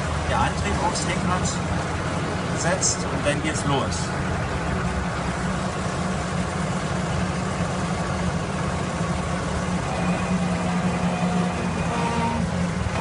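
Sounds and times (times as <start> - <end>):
digging machine engine humming: 0.0 - 13.0.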